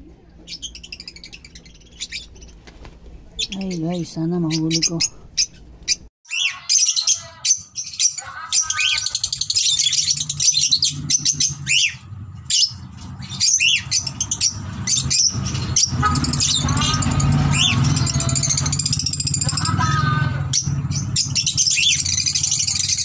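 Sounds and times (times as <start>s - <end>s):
lovebirds chirping: 0.3s - 23.0s.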